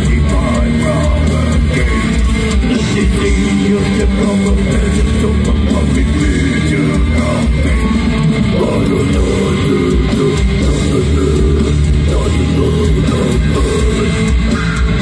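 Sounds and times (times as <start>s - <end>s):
bass guitar: 0.0s - 15.0s
distorted electric guitars: 0.0s - 15.0s
drum kit: 0.0s - 15.0s.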